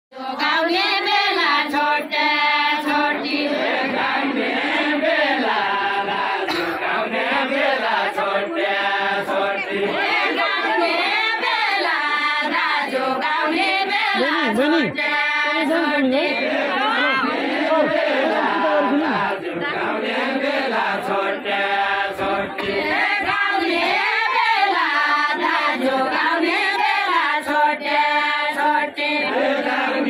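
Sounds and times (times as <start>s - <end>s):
women singing together: 0.1s - 30.0s.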